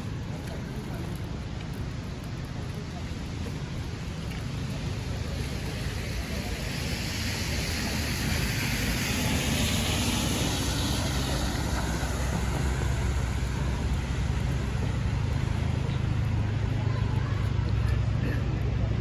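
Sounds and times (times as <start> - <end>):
low rumble of engines: 0.0 - 19.0
tyres hissing on wet pavement: 0.0 - 19.0.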